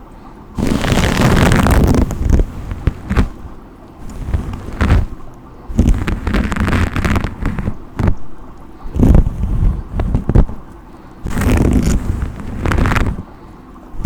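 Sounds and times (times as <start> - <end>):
brush strokes: 0.6 - 8.2, 8.8 - 10.6, 11.2 - 13.3.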